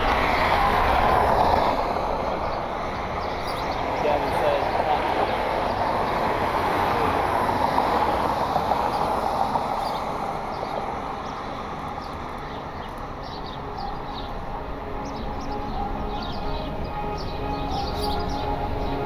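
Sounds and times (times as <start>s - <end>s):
jet engine passing by: 0.0s - 19.0s.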